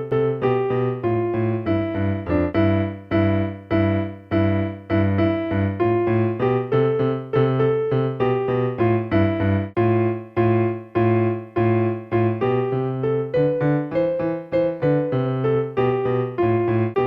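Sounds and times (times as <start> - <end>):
electronic keyboard piano notes: 0.0 - 17.0.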